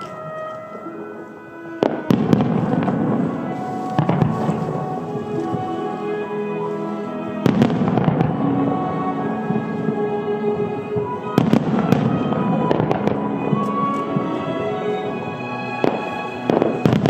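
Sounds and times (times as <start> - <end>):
fireworks bursting: 0.0 - 17.0
fireworks crackling: 0.0 - 17.0
music: 0.0 - 17.0.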